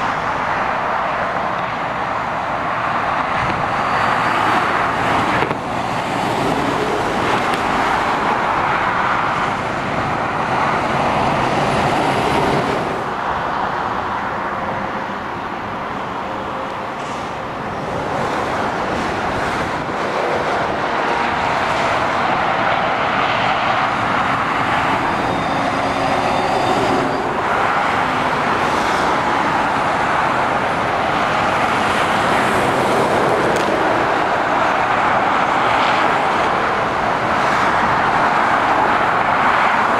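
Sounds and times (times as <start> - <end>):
motorway traffic passing: 0.0 - 39.9.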